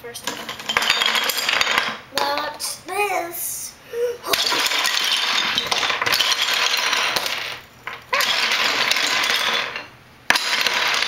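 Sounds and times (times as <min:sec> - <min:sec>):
wooden toy logs clattering on table: 0:00.2 - 0:02.6, 0:04.3 - 0:11.0.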